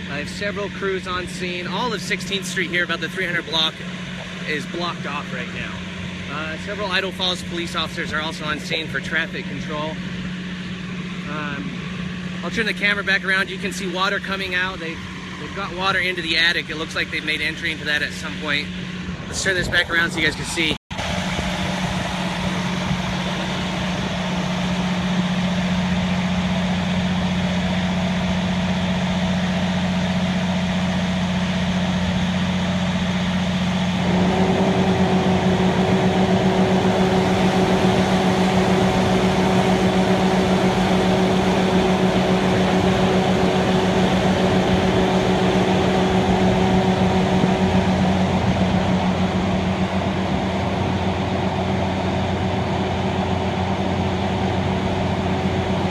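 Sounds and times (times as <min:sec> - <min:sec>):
fire engine motor humming: 0:00.0 - 0:55.9
high steady whine: 0:00.0 - 0:55.9.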